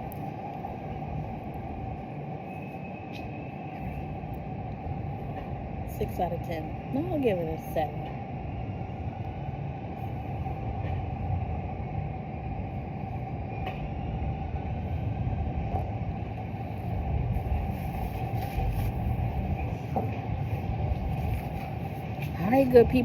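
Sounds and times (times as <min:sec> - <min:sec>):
motor vehicle rumble: 0:03.1 - 0:23.0.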